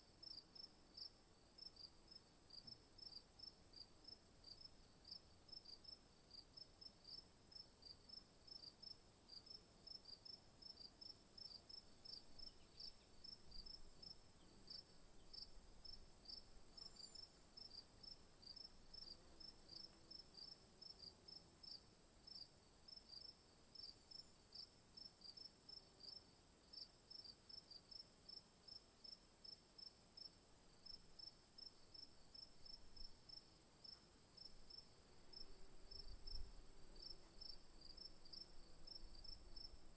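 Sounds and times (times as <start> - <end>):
crickets chirping: 7.0 - 39.9.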